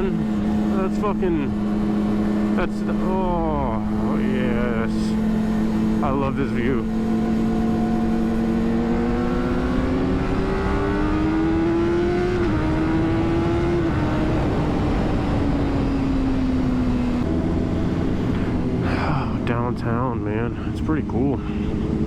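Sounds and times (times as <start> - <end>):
motorcycle engine revving: 0.0 - 22.0
wind and road noise: 0.0 - 22.0.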